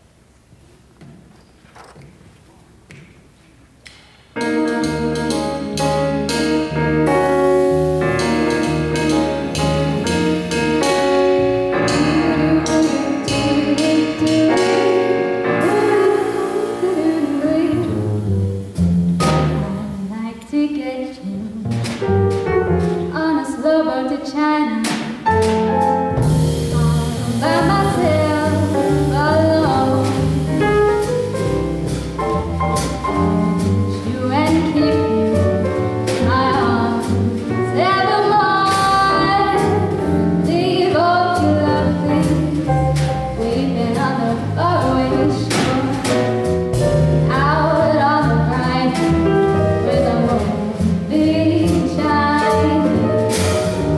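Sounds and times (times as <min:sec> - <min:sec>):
jazz combo playing: 0:04.4 - 0:24.0, 0:25.0 - 0:53.9
woman singing jazz: 0:04.4 - 0:53.9.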